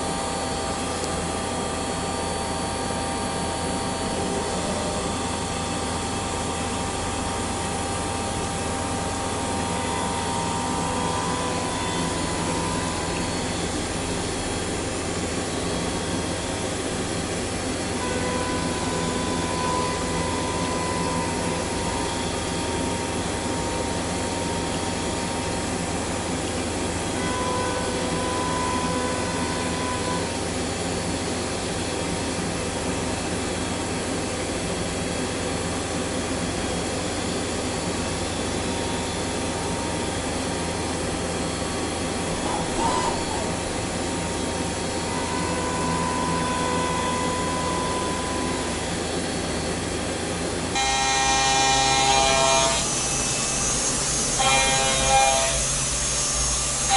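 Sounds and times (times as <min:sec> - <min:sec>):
machine tool whirring: 0:00.0 - 0:31.2, 0:37.6 - 0:56.9
faint machine whine: 0:00.0 - 0:56.9.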